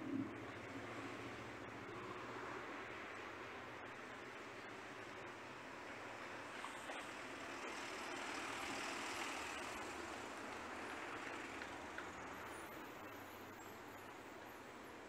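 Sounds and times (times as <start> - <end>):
traffic hiss: 0.0 - 15.0.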